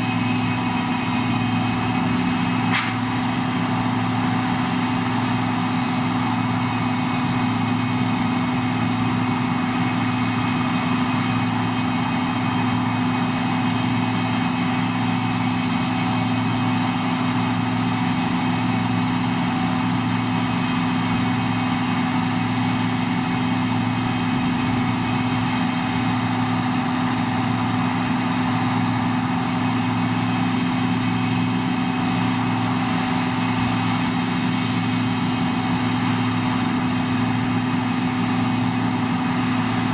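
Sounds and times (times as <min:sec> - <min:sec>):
combine harvester engine drone: 0:00.0 - 0:39.9
steady machine hum: 0:00.0 - 0:39.9.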